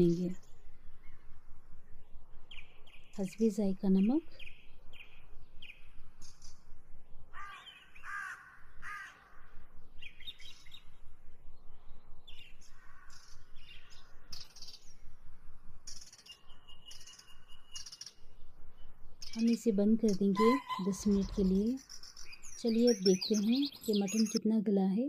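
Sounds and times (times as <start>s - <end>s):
birds calling: 0.0s - 24.4s.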